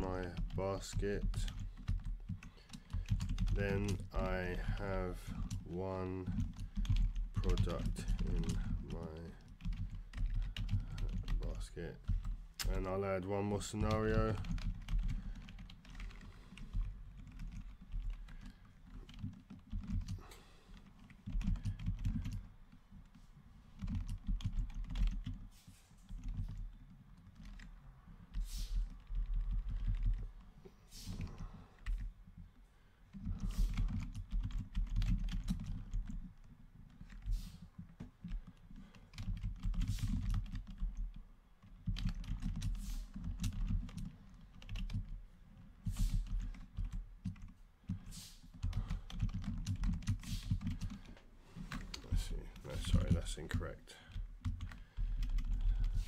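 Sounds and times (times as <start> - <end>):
typing on computer keyboard: 0.0 - 12.9, 13.6 - 23.1, 23.8 - 30.5, 31.1 - 32.5, 33.1 - 56.0.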